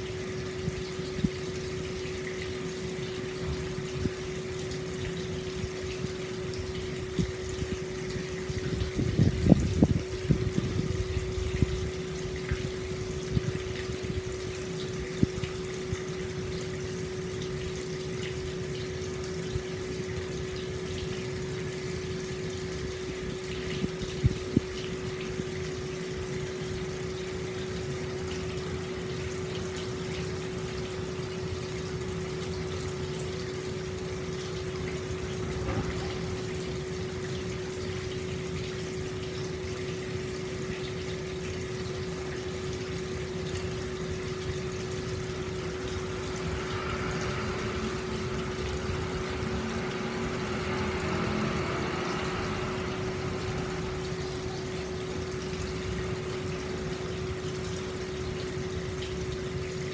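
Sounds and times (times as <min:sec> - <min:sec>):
water pouring into stone bath: 0:00.1 - 0:59.9.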